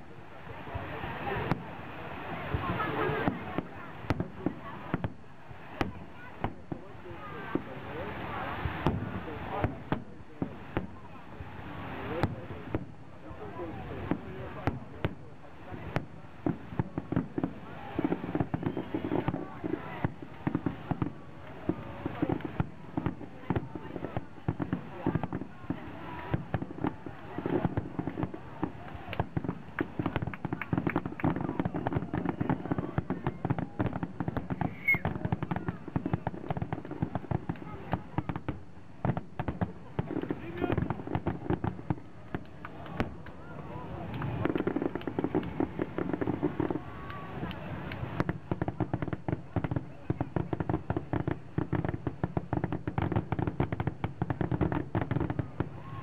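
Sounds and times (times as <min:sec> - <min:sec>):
fireworks popping and crackling: 0:00.0 - 0:56.0.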